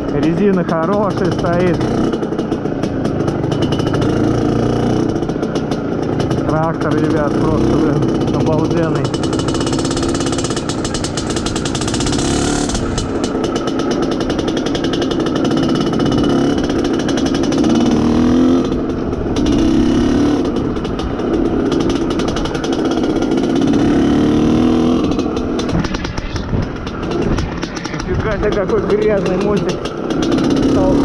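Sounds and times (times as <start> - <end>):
two-stroke motorcycle engine revving: 0.0 - 31.0.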